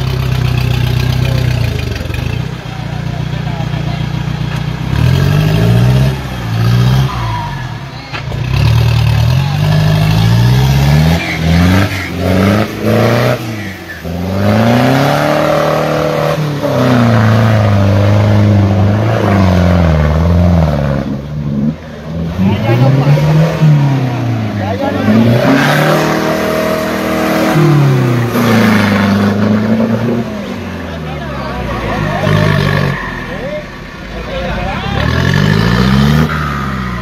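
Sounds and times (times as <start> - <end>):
off-road vehicle engine revving: 0.0 - 37.0
tires churning through mud: 0.0 - 37.0.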